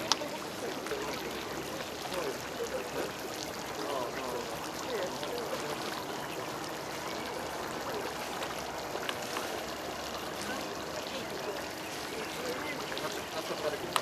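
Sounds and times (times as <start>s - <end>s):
faint indistinct voices: 0.0s - 14.0s.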